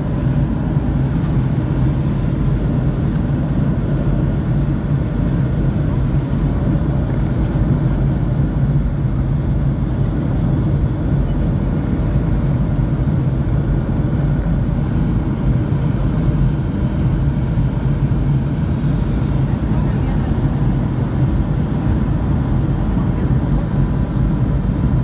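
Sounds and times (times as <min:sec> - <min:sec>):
jet airliner cabin noise: 0:00.0 - 0:25.0.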